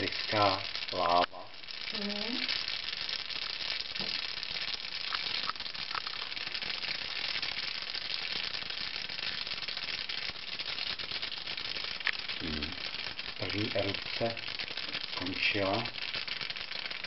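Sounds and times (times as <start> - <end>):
foam fizzing and crackling: 0.0 - 17.0.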